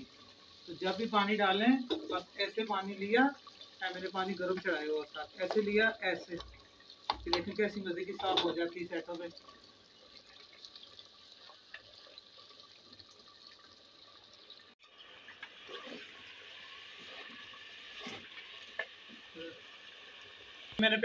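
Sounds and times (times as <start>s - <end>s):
meat and water simmering in pot: 0.0s - 21.0s.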